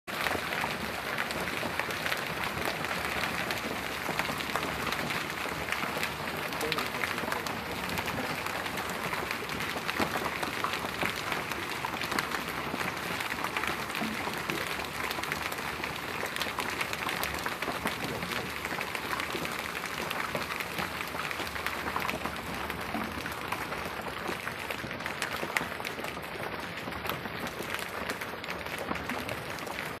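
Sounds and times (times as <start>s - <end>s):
hailstones hitting the ground: 0.1s - 30.0s.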